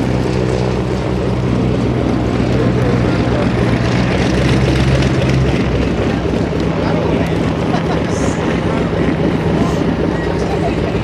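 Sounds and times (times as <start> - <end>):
aircraft engine low tone: 0.0 - 11.0.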